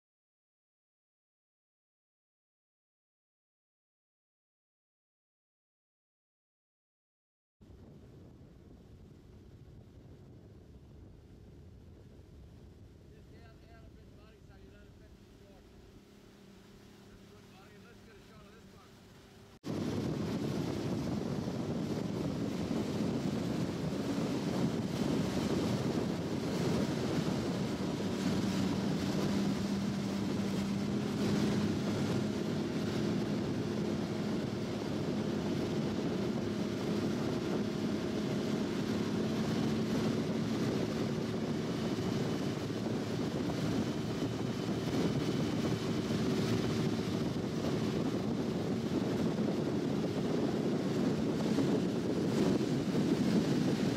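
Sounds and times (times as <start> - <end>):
wind on microphone: 7.6 - 53.9
motorboat engine droning: 7.7 - 53.9.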